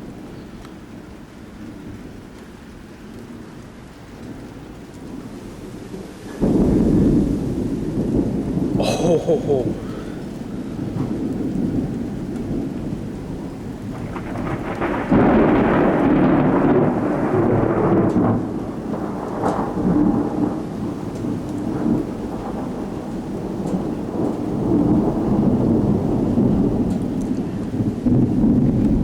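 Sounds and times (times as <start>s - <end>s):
steady rain: 0.0s - 29.0s
thunder rumbling: 0.0s - 29.0s.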